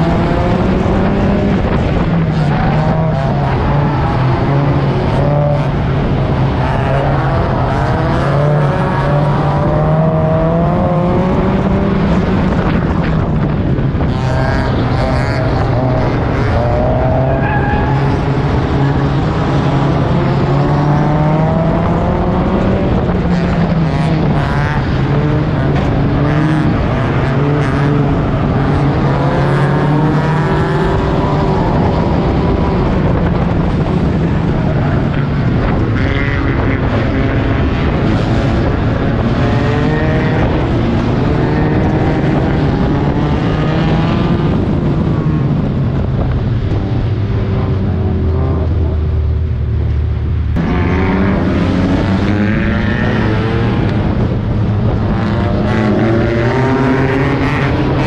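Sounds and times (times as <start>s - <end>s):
other race car engines: 0.0s - 58.0s
race car engine revving: 0.0s - 58.0s.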